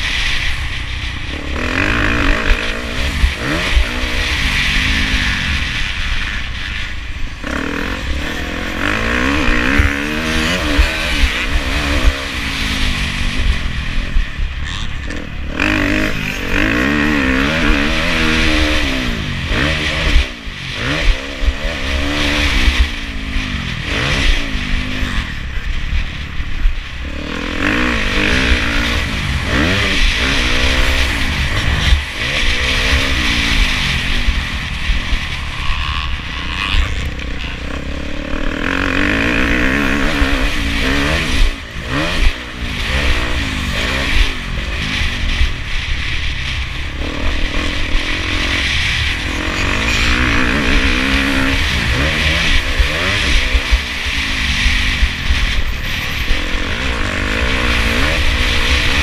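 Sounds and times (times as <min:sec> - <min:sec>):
motorcycle engine revving: 0:00.0 - 0:59.0
wind rumble on microphone: 0:00.0 - 0:59.0.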